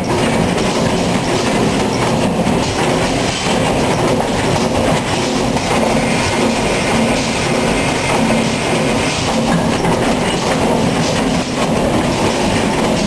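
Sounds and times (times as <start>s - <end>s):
baling machine clattering: 0.0s - 13.0s.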